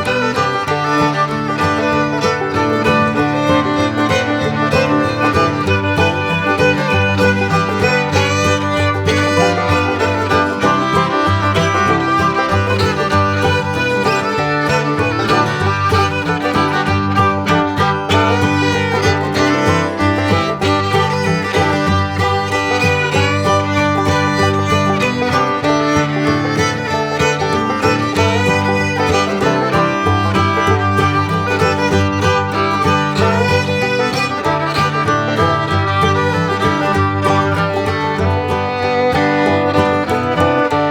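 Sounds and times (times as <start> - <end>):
banjo: 0.0 - 40.9
fiddle: 0.0 - 40.9
guitar: 0.0 - 40.9.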